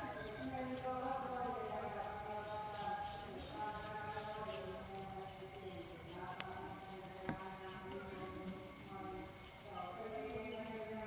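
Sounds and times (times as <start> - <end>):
crickets chirping in trills: 0.0 - 11.0.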